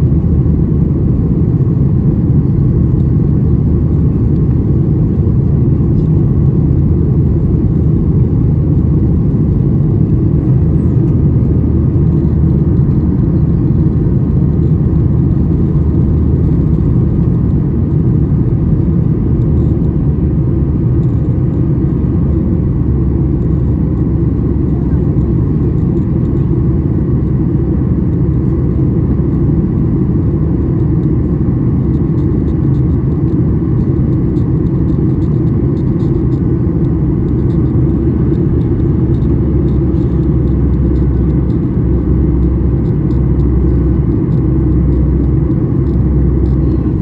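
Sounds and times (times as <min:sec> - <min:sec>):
jet engines rumbling in cabin: 0:00.0 - 0:47.0.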